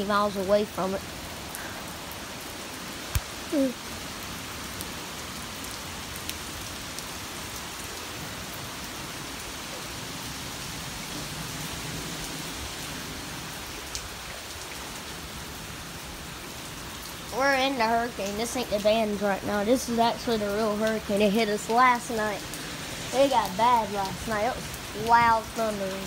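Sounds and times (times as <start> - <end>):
heavy rain and wind hiss: 0.0 - 26.0.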